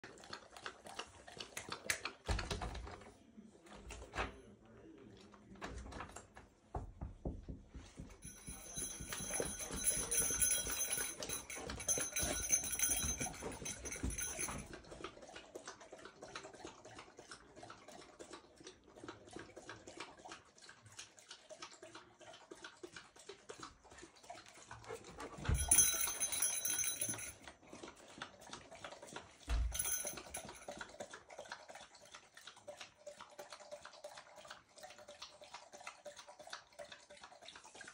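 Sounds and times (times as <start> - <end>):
dog lapping water from bowl: 0.0 - 4.1, 7.9 - 37.9.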